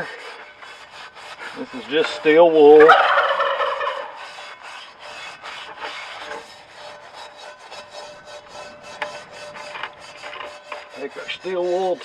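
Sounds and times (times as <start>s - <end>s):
steel wool scrubbing a skillet: 0.0s - 12.0s.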